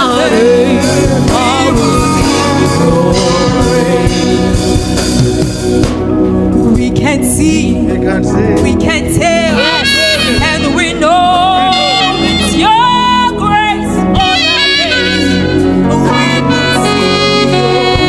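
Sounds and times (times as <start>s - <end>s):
gospel band playing: 0.0s - 18.0s
ornamented lead melody: 0.0s - 18.0s.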